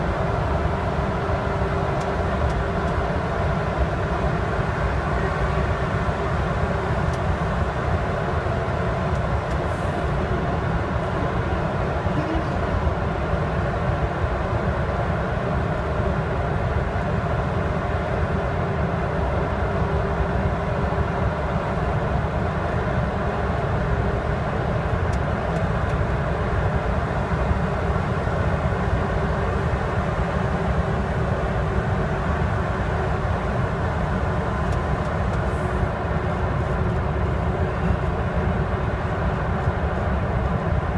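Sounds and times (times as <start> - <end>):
truck diesel engine drone: 0.0 - 40.9.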